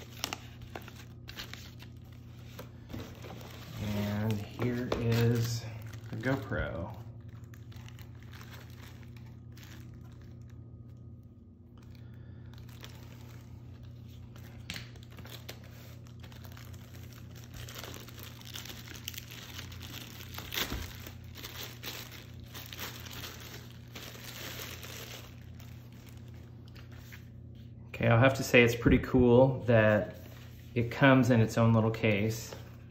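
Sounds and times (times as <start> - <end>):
plastic bag crinkling: 0.0 - 11.2, 11.8 - 27.1
steady low hum: 0.0 - 32.9.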